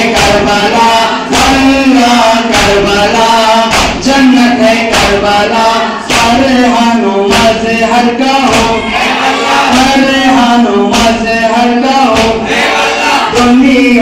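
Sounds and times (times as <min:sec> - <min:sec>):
men chanting: 0:00.0 - 0:14.0
rhythmic chest-beating strikes: 0:00.0 - 0:14.0.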